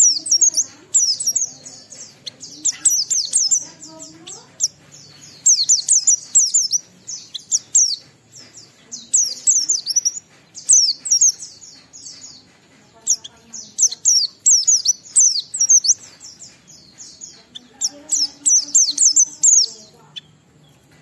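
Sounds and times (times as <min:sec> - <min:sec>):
bird singing chattering song: 0:00.0 - 0:21.0.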